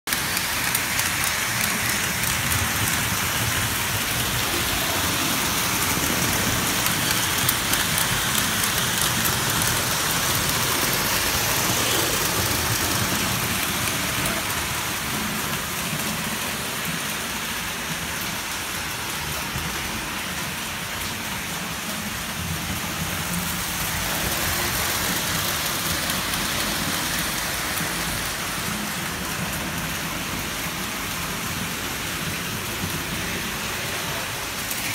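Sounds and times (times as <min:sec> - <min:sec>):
model train wheels clattering: 0:00.1 - 0:34.9.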